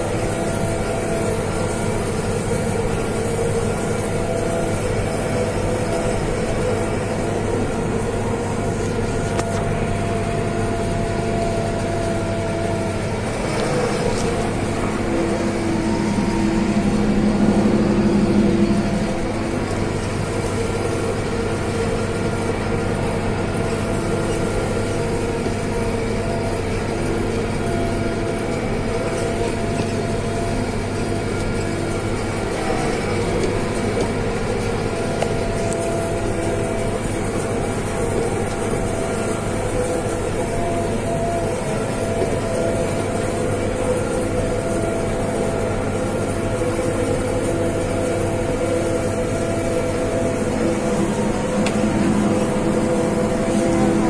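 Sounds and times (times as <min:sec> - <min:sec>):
tractor engine drone: 0:00.0 - 0:54.0.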